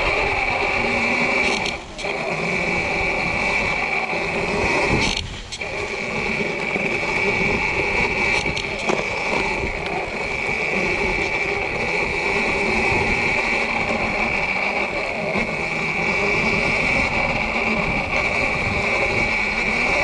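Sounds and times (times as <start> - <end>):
electric motor high whine: 0.0 - 20.0.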